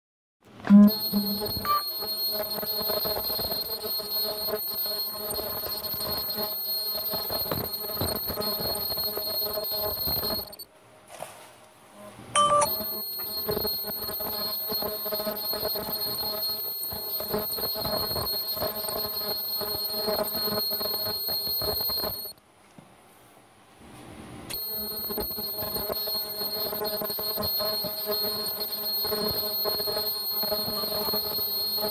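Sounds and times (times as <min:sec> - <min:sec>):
sewing machine whining and humming: 0:00.9 - 0:10.6, 0:12.6 - 0:22.3, 0:24.5 - 0:31.9.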